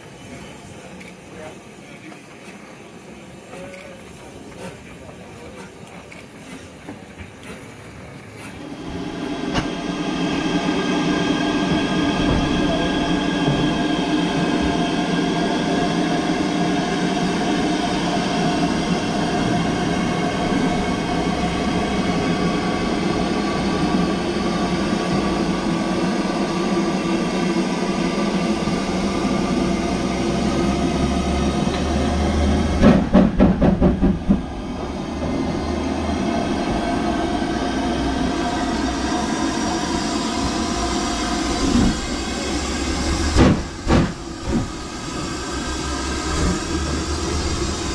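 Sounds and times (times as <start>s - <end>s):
steam locomotive exhaust beats: 0.0s - 47.9s
steam locomotive running noise: 0.0s - 47.9s.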